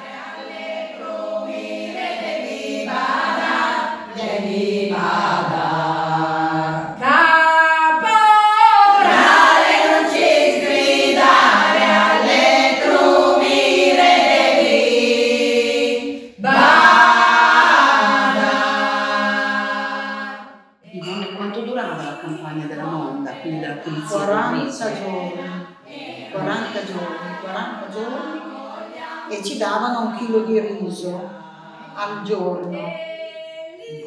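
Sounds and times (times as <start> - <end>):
women's choir singing unaccompanied: 0.0 - 21.2, 22.7 - 30.6, 31.3 - 34.0.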